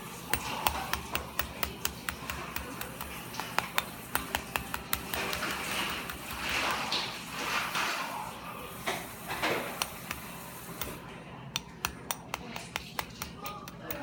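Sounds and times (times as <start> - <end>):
light sharp taps: 0.3 - 7.1, 8.9 - 14.0.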